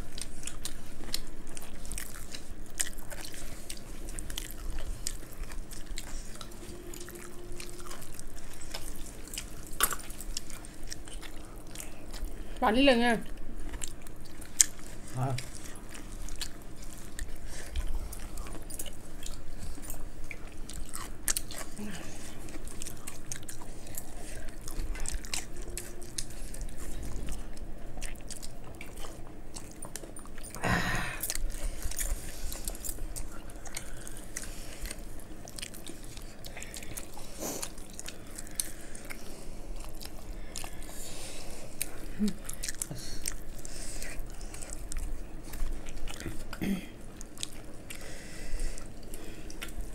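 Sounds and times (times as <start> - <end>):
people chewing wetly: 0.0 - 49.9.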